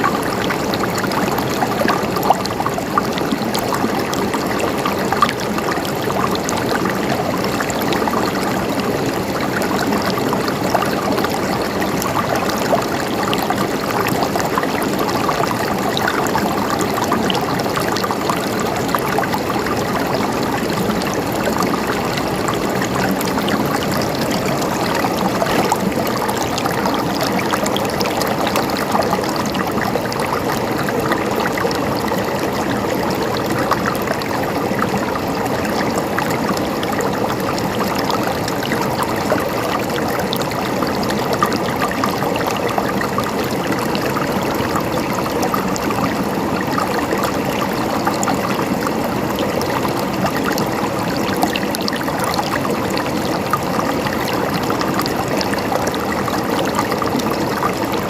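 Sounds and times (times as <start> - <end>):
river water babbling over rocks: 0.0 - 58.0.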